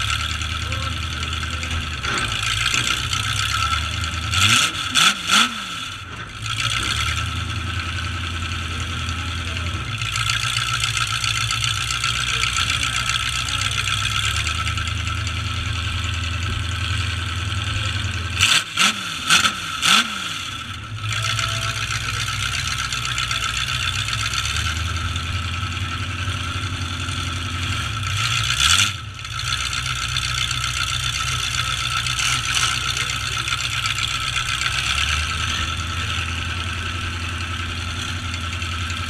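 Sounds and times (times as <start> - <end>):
engine revving: 0.0 - 39.0
truck engines running: 0.0 - 39.0.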